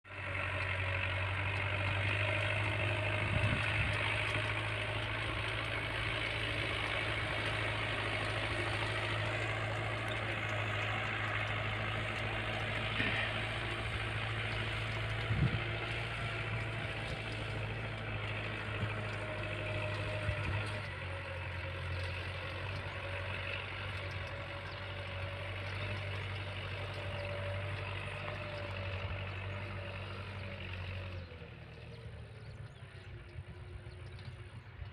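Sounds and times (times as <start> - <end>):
tractor engine humming: 0.0 - 34.9.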